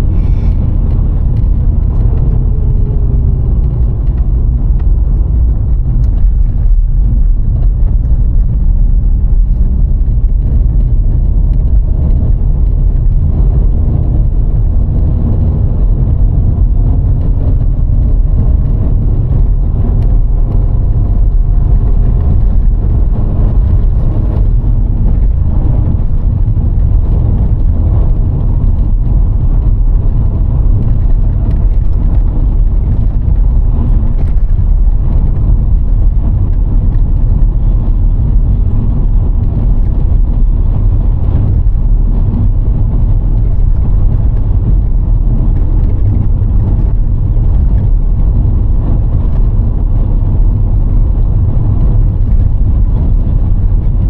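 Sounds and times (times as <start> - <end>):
car engine: 0.0 - 54.0
tyre and road rumble: 0.0 - 54.0.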